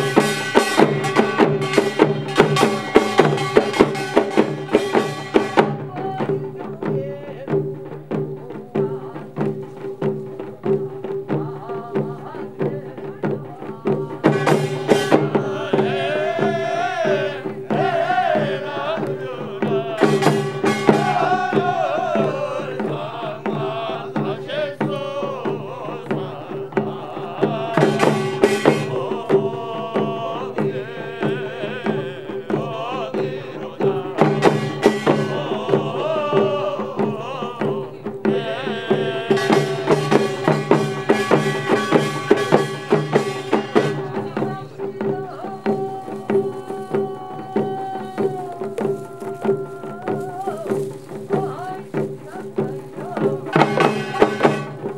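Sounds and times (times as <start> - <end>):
hand drums beating fast rhythm: 0.0 - 54.9.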